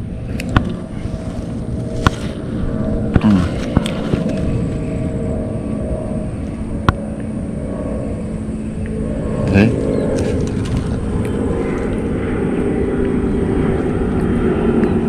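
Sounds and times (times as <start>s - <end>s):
steady motor drone: 0.0s - 15.0s.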